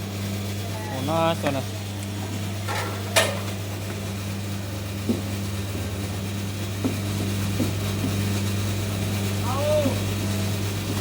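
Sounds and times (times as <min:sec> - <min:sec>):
coconut milk machine humming: 0:00.0 - 0:11.0.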